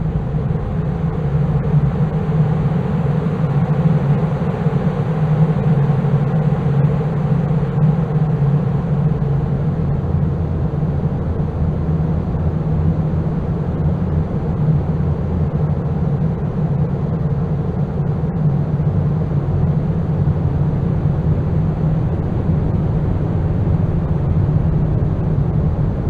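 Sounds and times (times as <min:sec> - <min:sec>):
low rumbling noise drone: 0:00.0 - 0:26.0.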